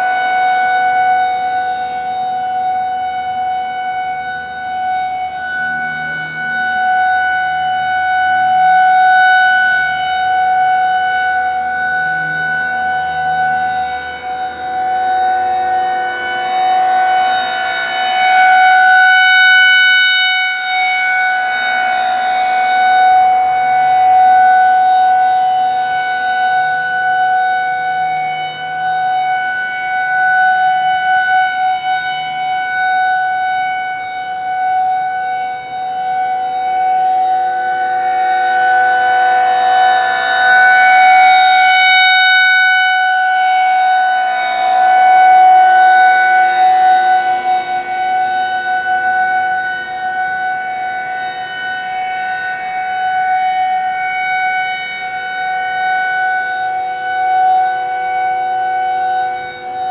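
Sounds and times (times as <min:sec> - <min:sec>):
rotating siren steady tone: 0:00.0 - 0:59.9.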